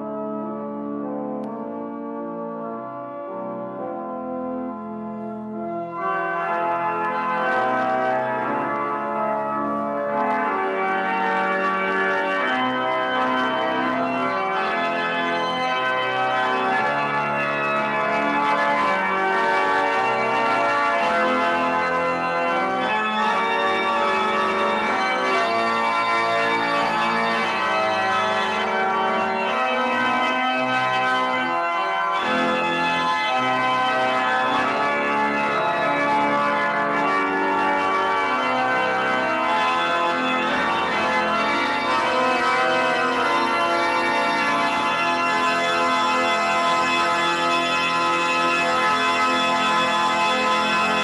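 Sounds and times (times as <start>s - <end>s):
organ playing sustained chords: 0.0s - 51.0s.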